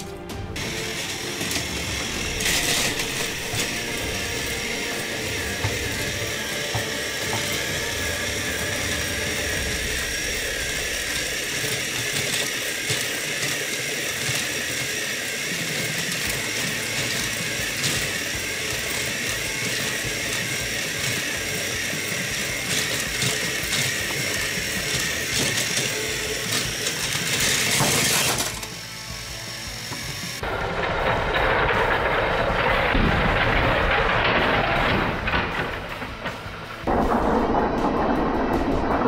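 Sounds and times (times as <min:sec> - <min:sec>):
toy train motors whirring: 0:00.0 - 0:36.9
gears grinding: 0:00.0 - 0:39.0.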